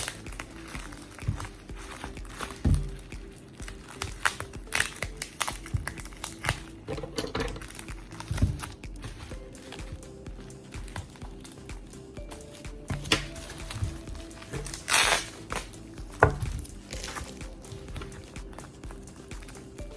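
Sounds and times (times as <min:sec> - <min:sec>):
background music: 0:00.0 - 0:19.9.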